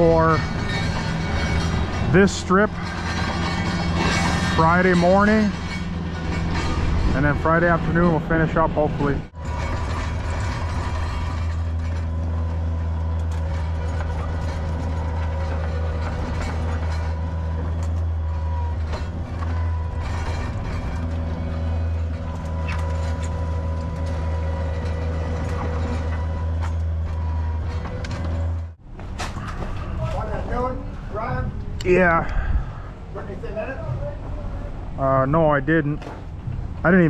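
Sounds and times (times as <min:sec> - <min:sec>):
loader engine running: 0:00.0 - 0:37.0
rattling and clanking: 0:00.0 - 0:37.0.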